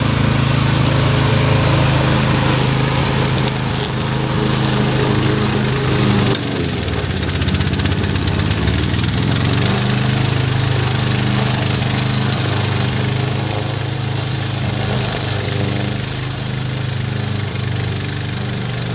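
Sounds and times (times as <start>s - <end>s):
lawn mower engine running: 0.0s - 18.9s.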